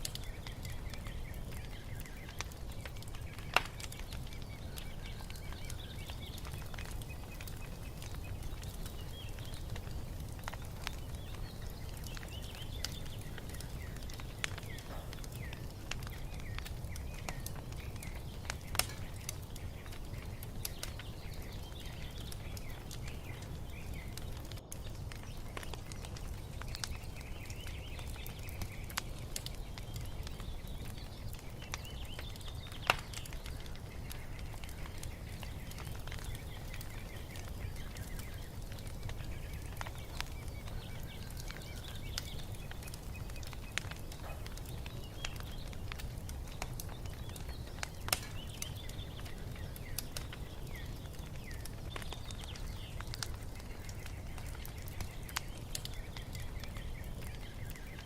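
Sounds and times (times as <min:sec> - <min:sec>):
small birds chirping: 0:00.0 - 0:58.0
wood fire crackling and popping: 0:00.0 - 0:58.0.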